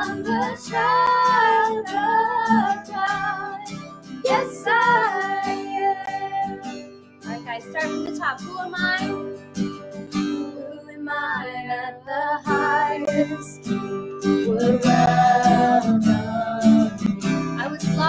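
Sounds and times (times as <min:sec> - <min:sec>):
woman and boy singing: 0:00.0 - 0:03.7, 0:04.3 - 0:06.6, 0:07.3 - 0:09.2, 0:10.6 - 0:13.6, 0:14.4 - 0:18.0
acoustic guitar strumming: 0:00.0 - 0:18.0.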